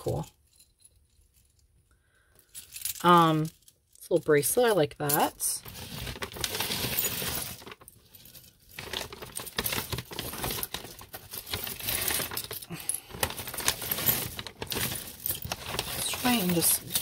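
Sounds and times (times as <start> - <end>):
jewelry clinking and rattling: 0.0 - 17.0.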